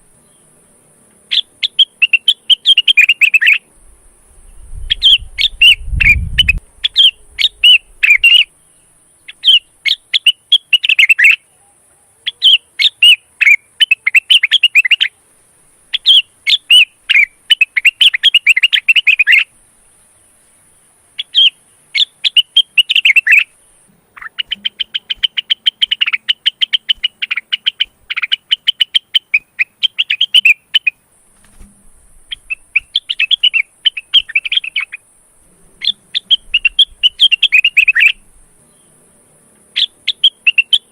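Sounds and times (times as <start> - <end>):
bird chirping rapidly: 1.3 - 3.7, 4.4 - 11.4, 12.3 - 15.2, 15.9 - 19.5, 21.2 - 31.6, 32.2 - 39.0, 39.7 - 40.9.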